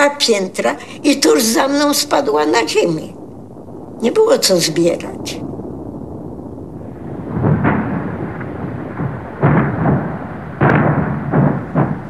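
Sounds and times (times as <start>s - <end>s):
artillery shells exploding: 0.0s - 12.0s.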